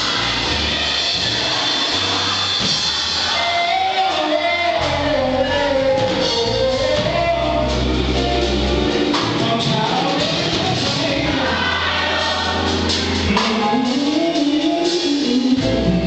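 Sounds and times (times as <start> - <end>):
bass notes: 0.0 - 16.0
drums and cymbals: 0.0 - 16.0
gospel choir singing: 0.0 - 16.0.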